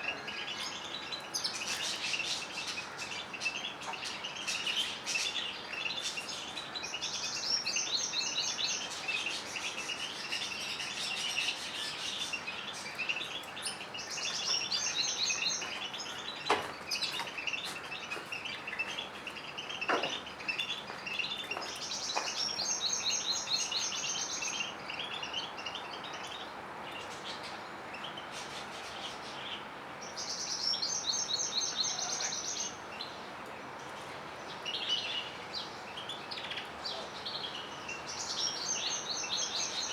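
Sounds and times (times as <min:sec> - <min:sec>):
songbirds twittering and trilling: 0:00.0 - 0:39.9.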